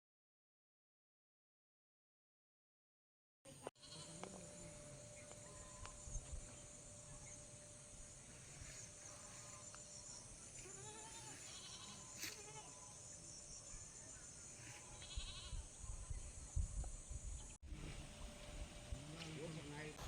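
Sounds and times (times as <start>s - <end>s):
high insect drone: 3.5s - 20.0s.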